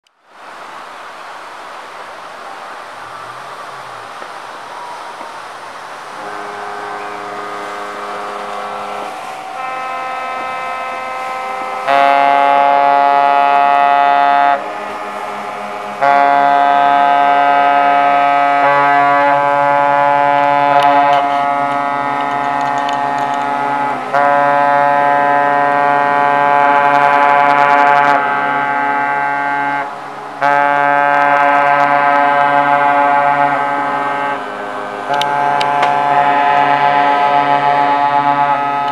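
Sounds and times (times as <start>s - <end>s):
ships' horns blasting: 2.4s - 38.9s.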